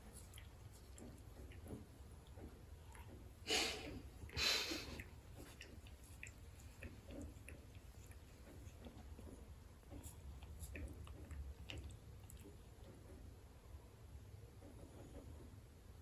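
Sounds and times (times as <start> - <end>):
cat sniffing: 0.0 - 13.0.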